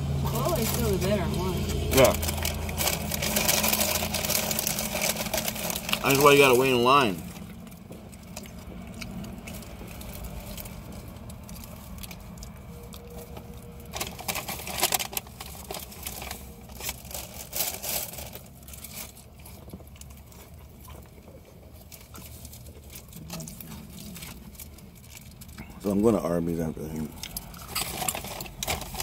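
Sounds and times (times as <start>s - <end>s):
car engine idling: 0.0s - 29.0s
wrapper crinkling and tearing: 0.1s - 29.0s.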